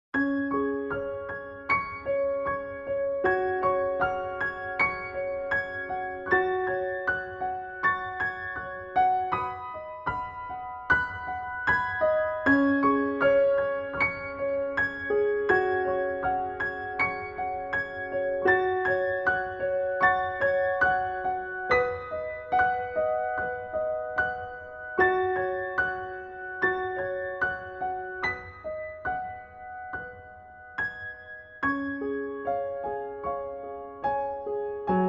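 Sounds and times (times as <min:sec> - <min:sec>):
gentle piano music: 0:00.2 - 0:35.0.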